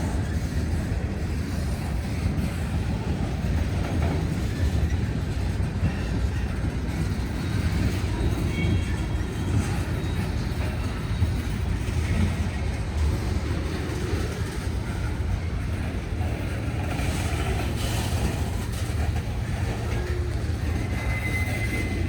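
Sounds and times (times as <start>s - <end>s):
freight train cars rolling: 0.0s - 22.0s.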